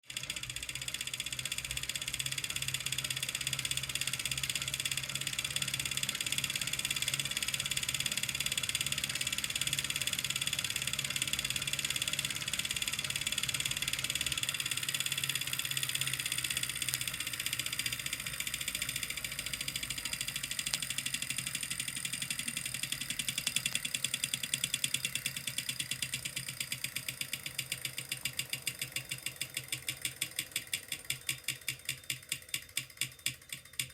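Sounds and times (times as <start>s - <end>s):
bike trainer whirring: 0.0s - 33.9s
fast even clicking: 0.2s - 33.9s.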